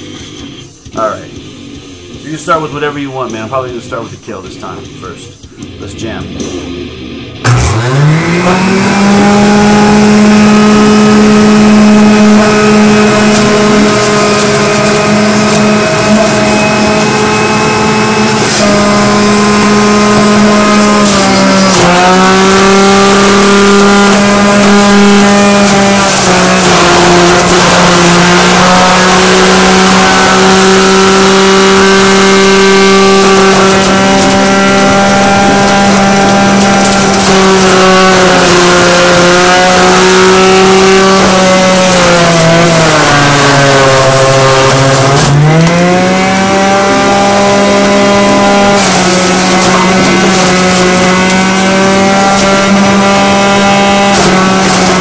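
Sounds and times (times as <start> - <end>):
electric juicer motor whine: 7.4 - 55.0.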